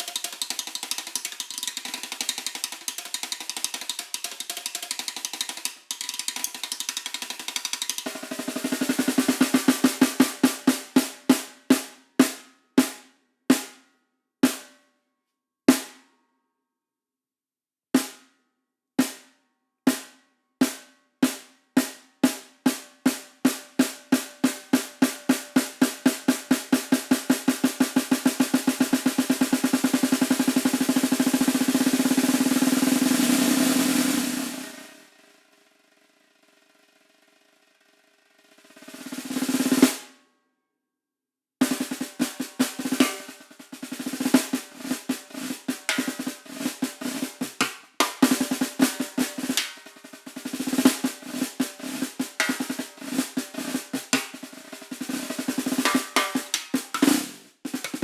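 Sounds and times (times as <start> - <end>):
snare drum strokes and rolls: 0.0 - 13.7, 20.0 - 35.6, 36.4 - 40.1, 41.6 - 58.0.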